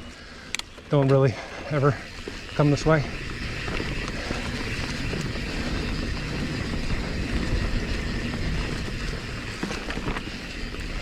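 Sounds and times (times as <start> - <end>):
bike rattles and clicks: 0.0 - 11.0
bike tyres rumbling on dirt trail: 0.0 - 11.0
wind buffeting microphone: 1.8 - 11.0.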